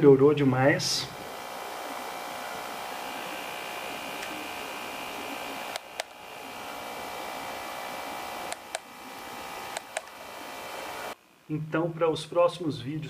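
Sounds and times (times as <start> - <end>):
steady hiss with faint hum: 0.0 - 13.0.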